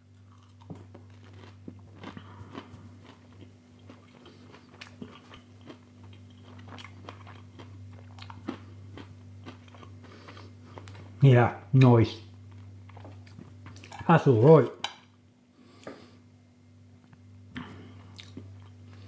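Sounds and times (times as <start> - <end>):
chewing crunchy food: 0.0 - 11.2, 11.8 - 16.1, 17.0 - 19.0
steady low hum: 0.0 - 19.0.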